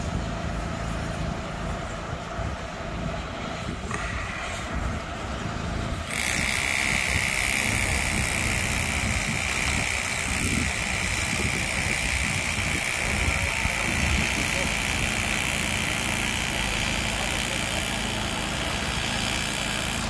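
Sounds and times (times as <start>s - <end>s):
engine running with low rumble: 0.0s - 20.0s
high whine and hiss: 0.0s - 20.0s.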